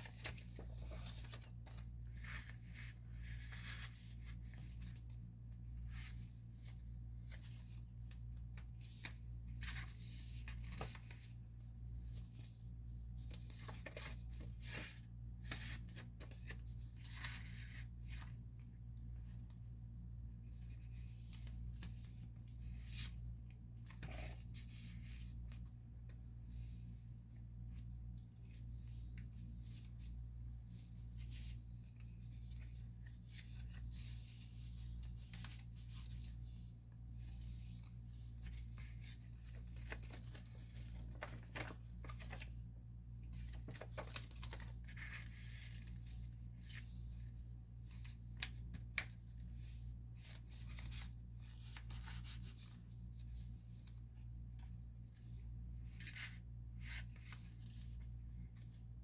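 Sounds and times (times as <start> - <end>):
paper pages rustling: 0.0 - 19.7, 20.4 - 59.0.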